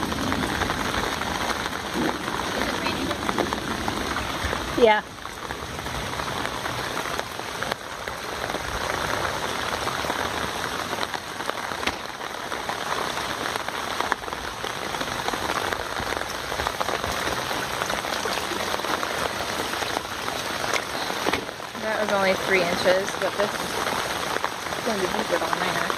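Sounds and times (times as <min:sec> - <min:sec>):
rain falling on water: 0:00.0 - 0:25.9.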